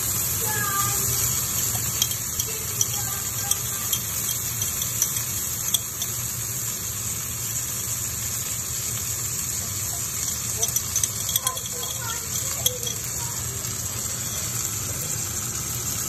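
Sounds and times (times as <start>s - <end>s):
chilies sizzling in hot oil: 0.0s - 16.0s.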